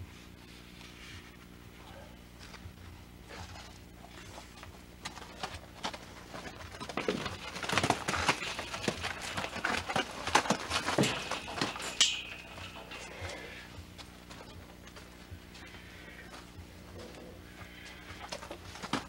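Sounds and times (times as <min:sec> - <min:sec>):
horse hooves thudding in dirt: 0:02.6 - 0:19.0.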